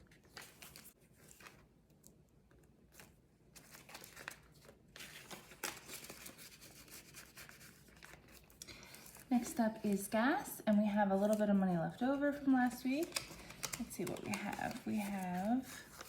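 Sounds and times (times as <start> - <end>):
paper bills rustling: 0.0 - 1.7, 2.9 - 16.0.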